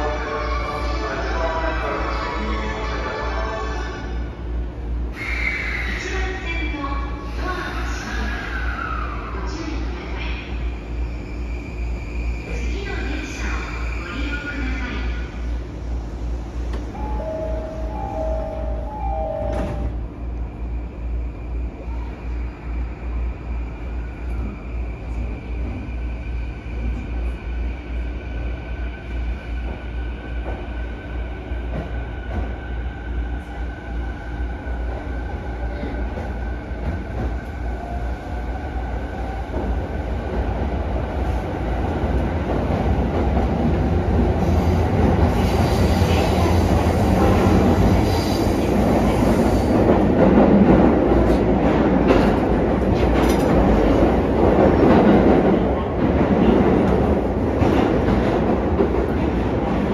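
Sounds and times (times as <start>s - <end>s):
train wheel and motor noise: 0.0s - 59.9s.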